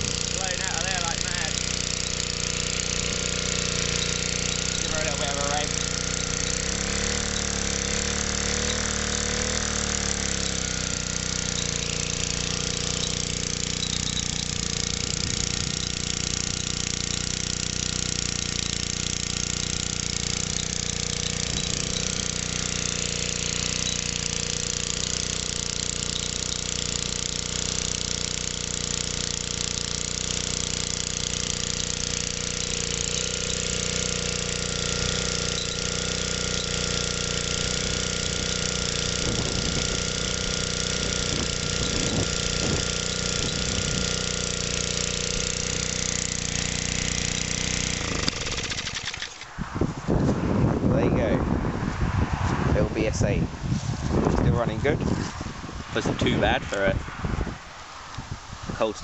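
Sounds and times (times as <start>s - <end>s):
small petrol engine running: 0.0s - 50.3s, 55.9s - 57.2s.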